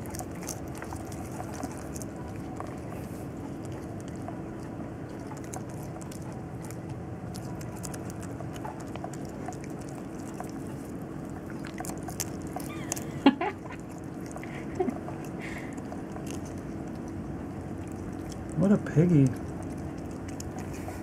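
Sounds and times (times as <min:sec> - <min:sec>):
animal crunching and chewing nuts: 0:00.0 - 0:21.0
low hum: 0:00.0 - 0:21.0.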